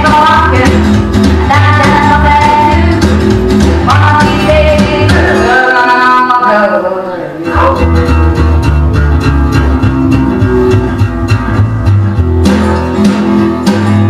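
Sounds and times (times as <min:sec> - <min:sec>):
repeating bass line: 0:00.0 - 0:05.6, 0:07.6 - 0:14.0
rock and roll song with singing: 0:00.0 - 0:14.0.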